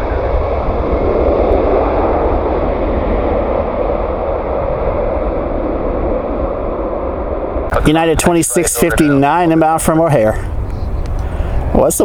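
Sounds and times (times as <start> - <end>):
jet aircraft engines roaring: 0.0 - 12.0.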